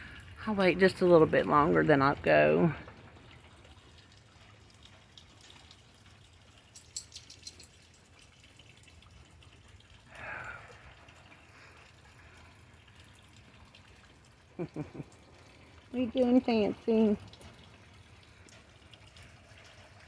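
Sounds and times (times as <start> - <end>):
faint rain dripping: 0.0 - 20.0.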